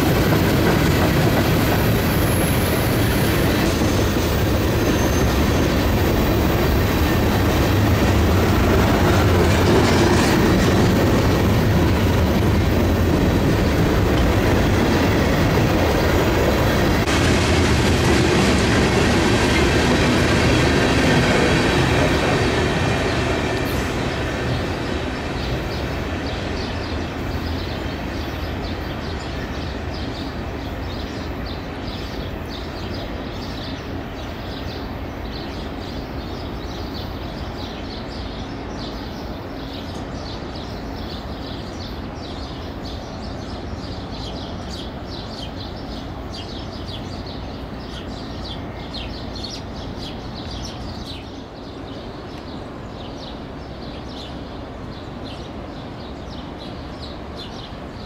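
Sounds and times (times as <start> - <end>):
birds chirping: 0.0 - 58.0
freight train rumbling: 0.0 - 58.0.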